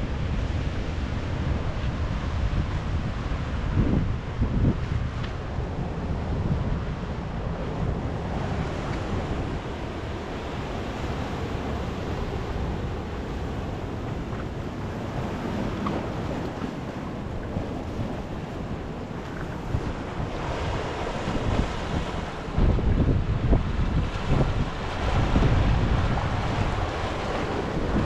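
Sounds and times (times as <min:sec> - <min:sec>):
surf washing against rocks: 0:00.0 - 0:28.0
wind buffeting the microphone: 0:00.0 - 0:28.0.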